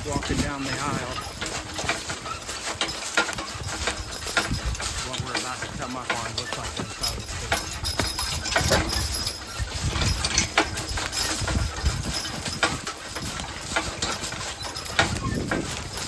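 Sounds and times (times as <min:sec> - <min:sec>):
horse hooves clopping: 0:00.0 - 0:16.0.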